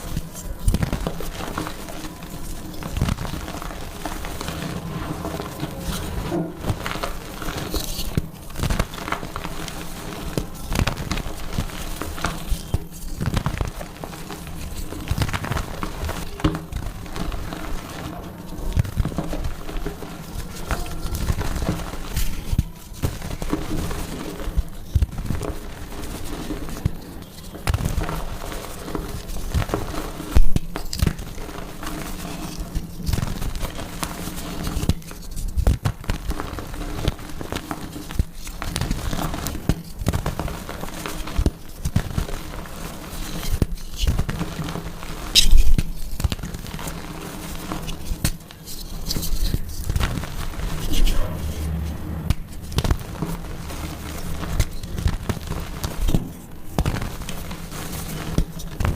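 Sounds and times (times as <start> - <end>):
chalk being crushed: 0.0 - 51.6.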